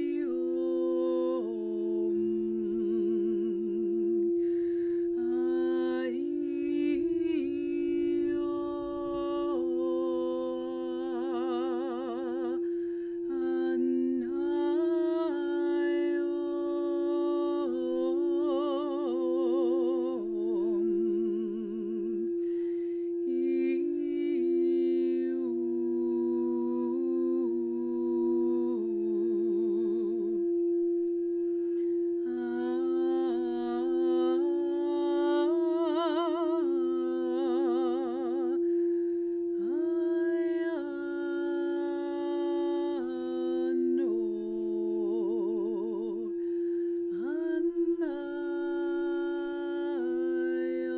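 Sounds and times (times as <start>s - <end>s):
singing bowl ringing: 0.0s - 50.9s.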